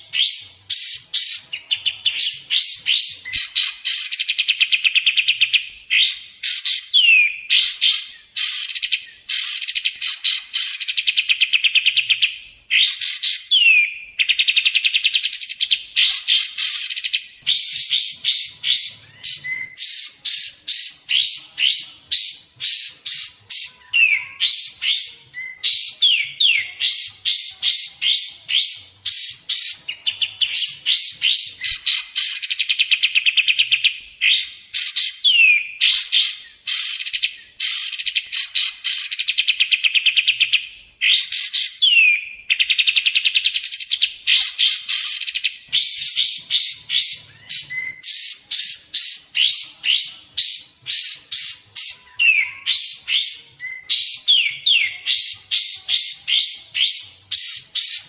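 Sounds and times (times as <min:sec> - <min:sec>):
bird chattering: 0:00.0 - 0:58.0.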